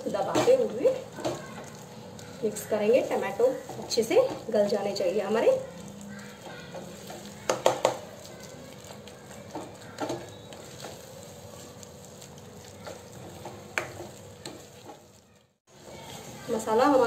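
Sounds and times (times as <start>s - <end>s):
frying sizzle: 0.0s - 17.0s
wooden spatula scraping pan: 0.1s - 17.0s.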